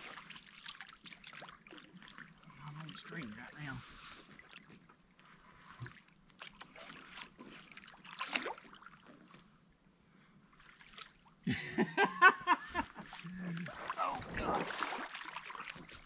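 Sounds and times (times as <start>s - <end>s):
water sloshing: 0.0s - 9.5s, 12.4s - 16.0s.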